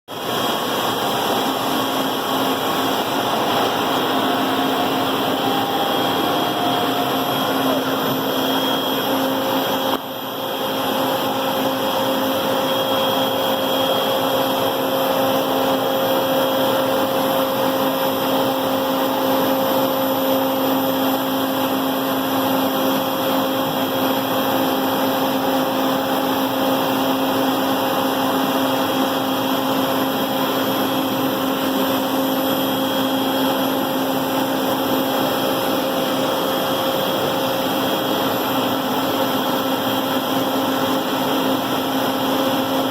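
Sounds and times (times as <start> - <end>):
router spindle whine: 0.2 - 42.9.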